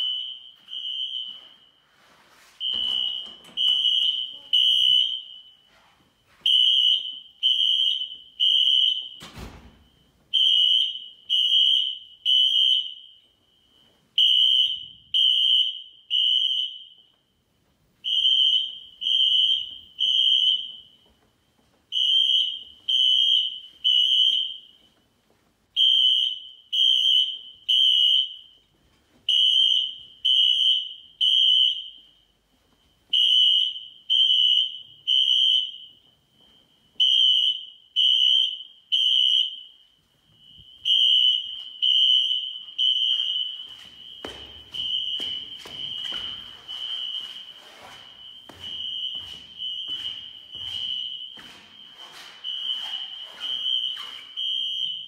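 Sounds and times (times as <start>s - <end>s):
fire alarm horn blasts: 0.0s - 21.1s, 21.9s - 25.0s, 25.7s - 55.0s.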